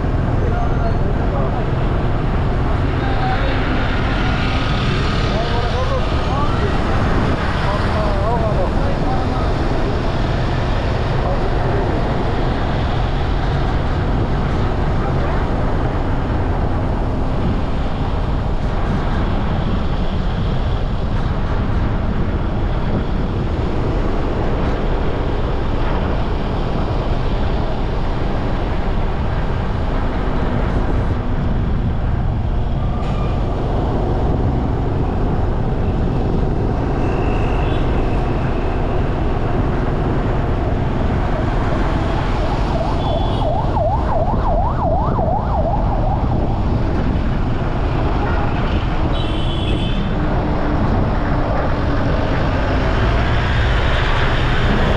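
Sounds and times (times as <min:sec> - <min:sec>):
road and traffic noise: 0:00.0 - 0:54.9
wind rumble on microphone: 0:00.0 - 0:54.9.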